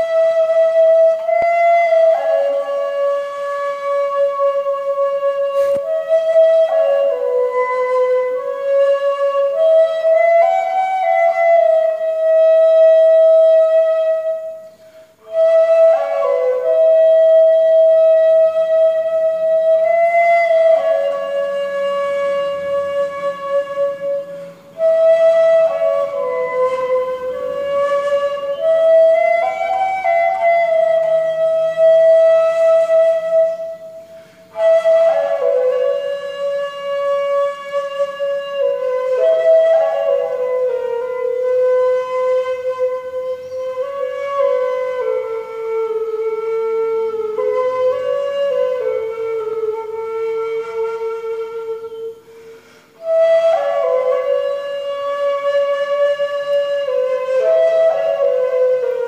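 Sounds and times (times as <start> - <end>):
end-blown flute melody: 0.0 - 52.3, 52.9 - 59.0.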